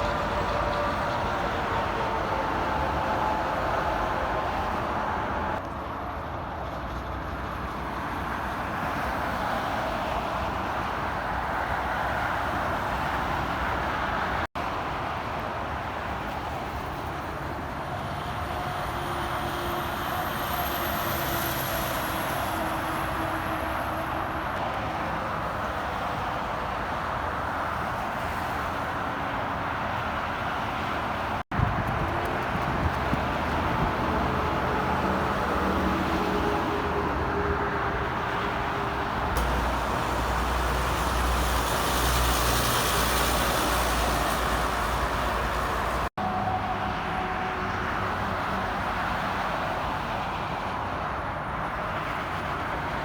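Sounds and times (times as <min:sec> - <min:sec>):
highway traffic passing: 0:00.0 - 0:53.0.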